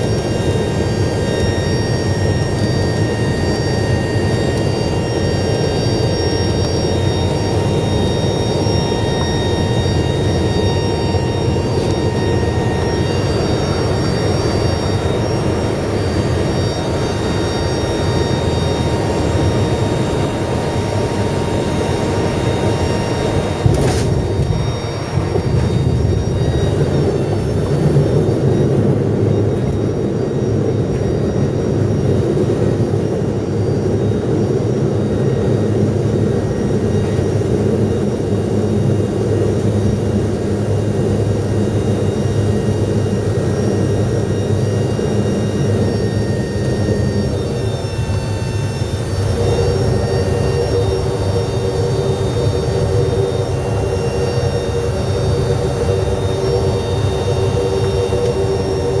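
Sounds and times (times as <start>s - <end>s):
vehicle engine drone: 0.0s - 59.0s.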